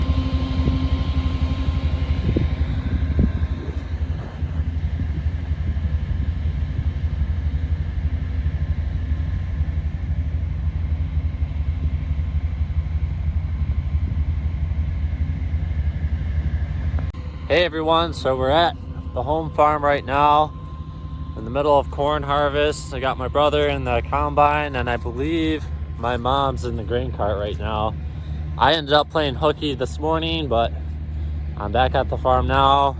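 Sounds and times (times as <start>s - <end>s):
farm machinery engine rumbling: 0.0s - 32.9s.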